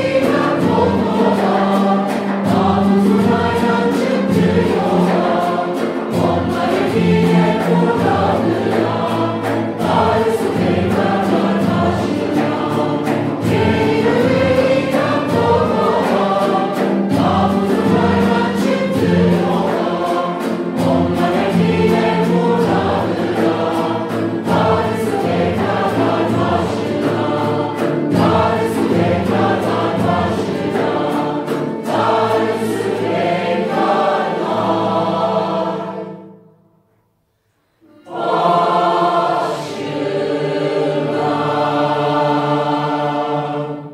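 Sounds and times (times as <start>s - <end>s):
violins and cello: 0.0s - 36.4s
mixed choir singing folk song: 0.0s - 36.6s, 37.2s - 43.9s
strummed guitar-like instrument: 0.0s - 37.0s.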